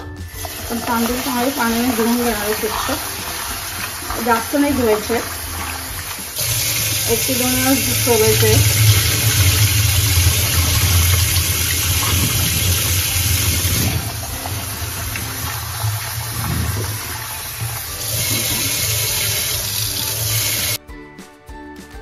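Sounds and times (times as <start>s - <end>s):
tap water running into bowl: 0.3s - 20.8s.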